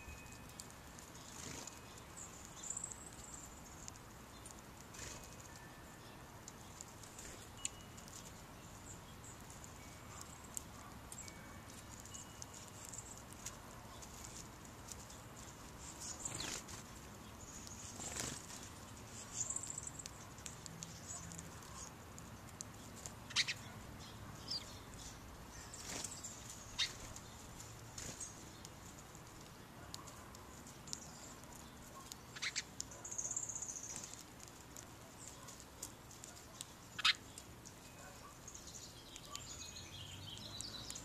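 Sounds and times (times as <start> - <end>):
songbirds chirping: 0.0 - 41.0.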